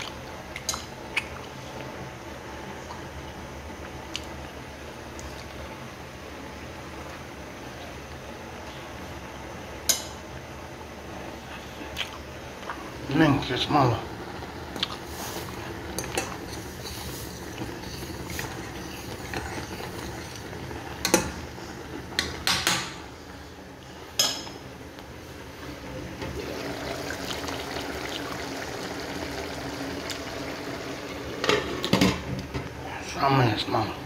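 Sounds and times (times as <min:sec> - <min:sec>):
water boiling in a pot: 0:00.0 - 0:34.0.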